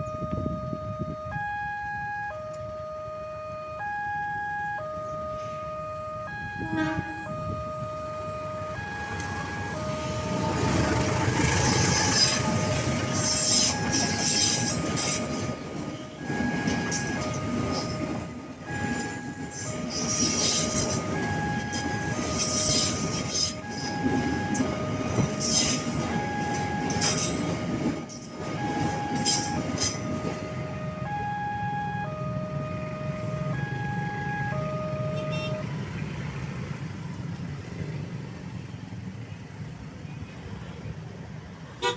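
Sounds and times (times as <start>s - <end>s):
level crossing two-tone alarm: 0.0s - 27.8s, 28.4s - 35.6s.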